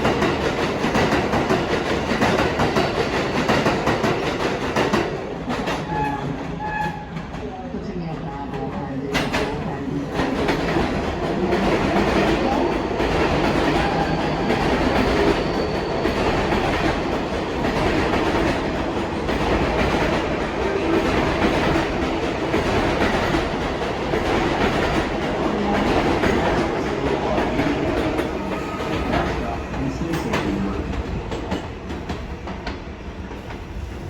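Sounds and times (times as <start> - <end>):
subway train rumble: 0.0 - 34.0.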